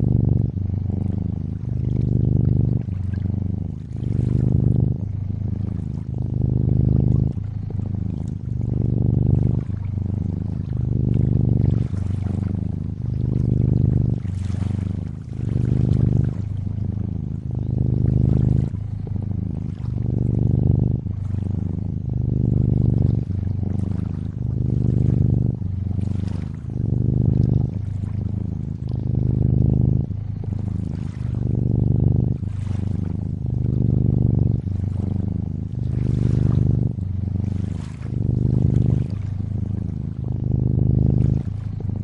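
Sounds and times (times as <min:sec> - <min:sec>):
cat purring: 0:00.0 - 0:42.0
gentle lapping water: 0:00.0 - 0:42.0.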